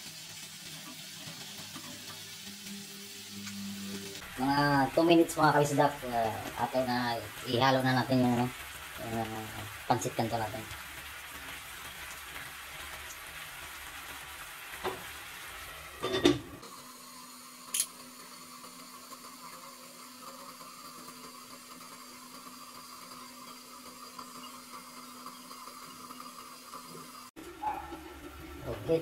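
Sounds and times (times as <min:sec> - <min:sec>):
broth simmering: 0:00.0 - 0:29.0.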